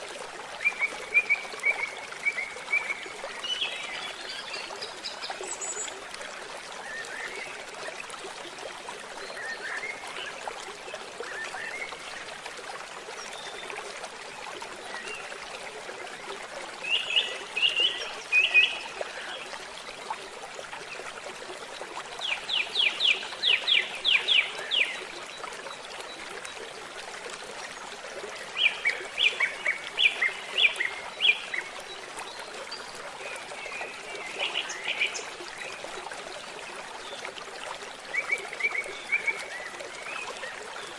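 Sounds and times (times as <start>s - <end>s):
forest stream trickling: 0.0s - 40.9s.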